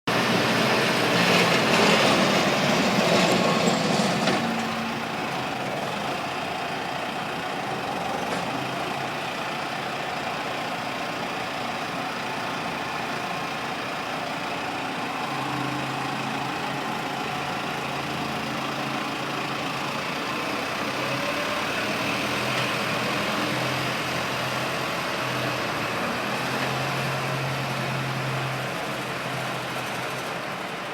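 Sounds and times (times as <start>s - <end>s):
tractor diesel engine running: 0.1s - 30.9s.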